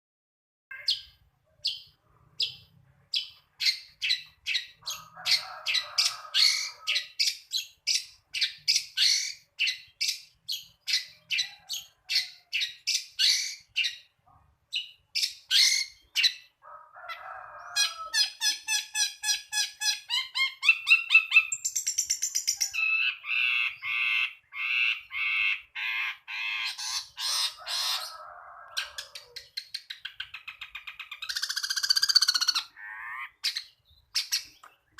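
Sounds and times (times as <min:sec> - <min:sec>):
shrike singing varied song: 0:00.7 - 0:16.6, 0:17.3 - 0:34.9.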